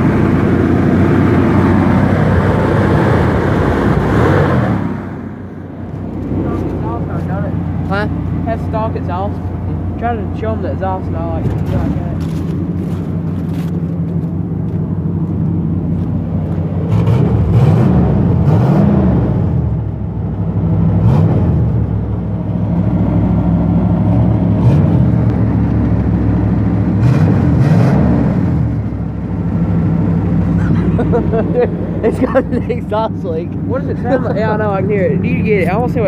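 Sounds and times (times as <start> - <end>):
engine revving: 0.0 - 14.3, 15.0 - 36.0.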